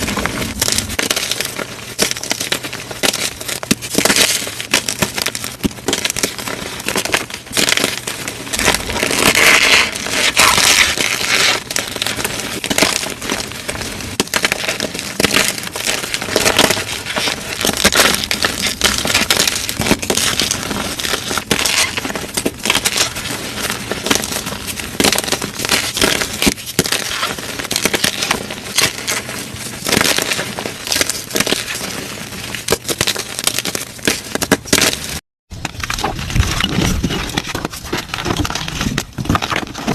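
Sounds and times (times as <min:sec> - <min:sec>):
chalk crunching and crackling: 0:00.0 - 0:39.9.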